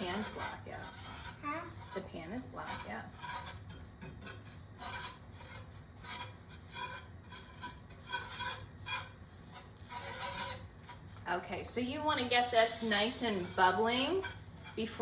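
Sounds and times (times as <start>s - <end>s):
utensil scraping skillet bottom: 0.0s - 11.1s, 12.0s - 15.0s.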